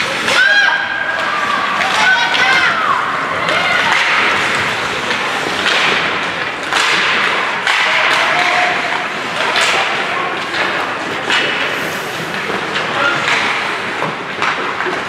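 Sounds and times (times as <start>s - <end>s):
hockey sticks knocking puck: 0.0s - 15.0s
skates scraping ice: 0.0s - 15.0s.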